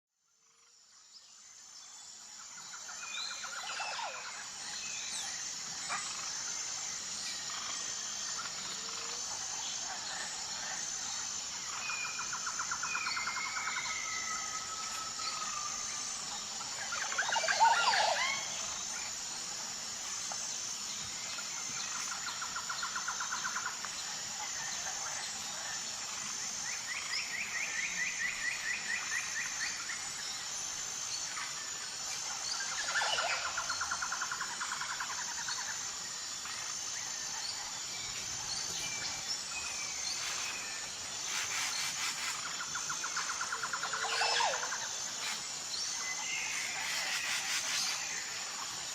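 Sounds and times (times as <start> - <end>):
tropical birds singing: 0.5 - 48.9
pulsing high-pitched drone: 2.8 - 48.9.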